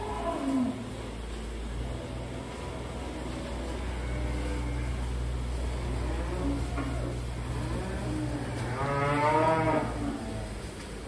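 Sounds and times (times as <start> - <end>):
cattle lowing: 0.0 - 10.8
low machine hum: 0.0 - 11.0.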